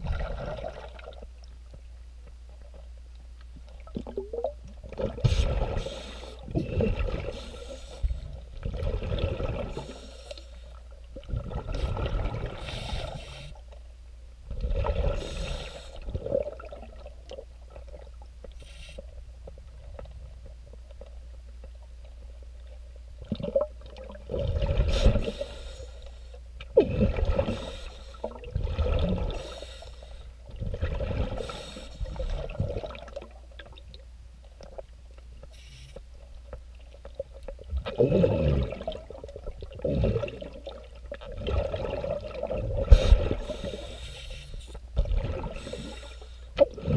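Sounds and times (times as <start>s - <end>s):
underwater exhaled bubbles: 0.0s - 1.6s, 3.6s - 13.6s, 14.4s - 25.9s, 26.6s - 46.9s
steady low hum: 0.0s - 46.9s.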